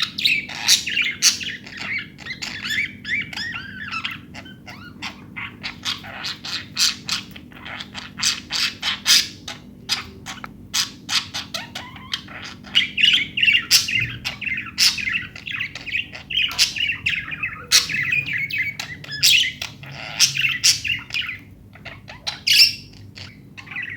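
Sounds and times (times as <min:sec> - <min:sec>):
budgerigars chattering and chirping: 0:00.0 - 0:23.9.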